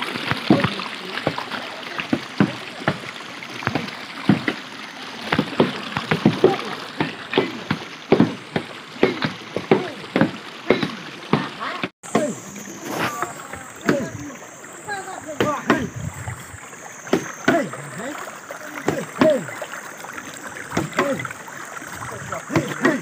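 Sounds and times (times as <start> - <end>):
flowing water rushing: 0.0 - 23.0
water splashing: 0.0 - 23.0.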